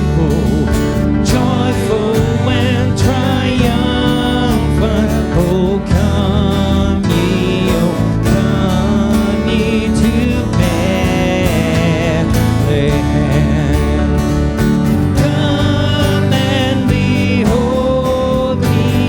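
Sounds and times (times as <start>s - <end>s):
guitar: 0.0s - 19.0s
people singing: 0.0s - 19.0s
steady drum beat: 0.0s - 19.0s.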